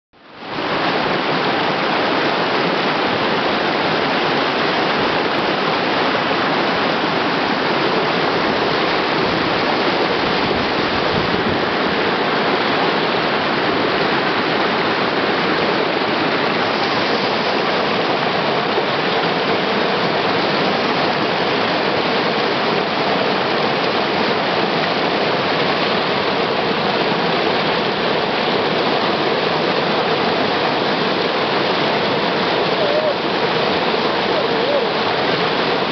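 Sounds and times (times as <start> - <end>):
river rapids rushing over rocks: 0.2 - 35.9.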